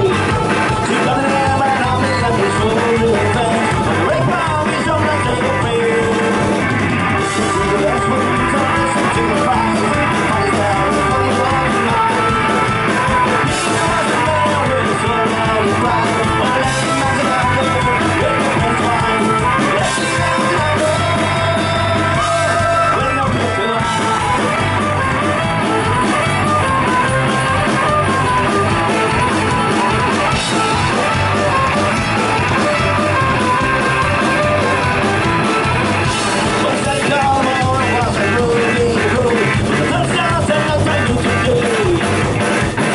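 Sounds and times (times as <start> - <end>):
folk-punk band playing live: 0.0 - 42.9
man singing: 0.0 - 42.9.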